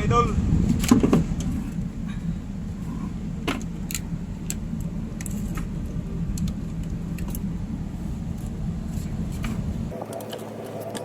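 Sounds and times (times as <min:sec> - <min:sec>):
low machine hum: 0:00.0 - 0:10.8.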